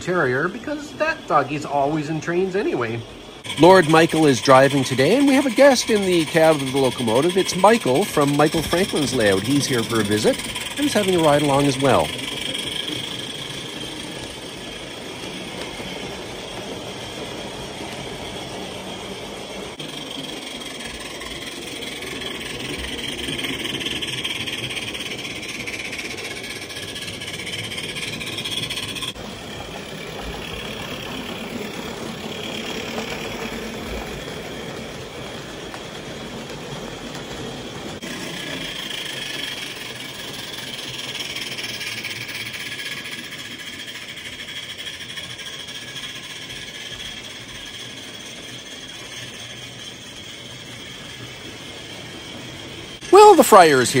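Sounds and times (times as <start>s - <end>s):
model trains rolling on track: 0.0s - 54.0s.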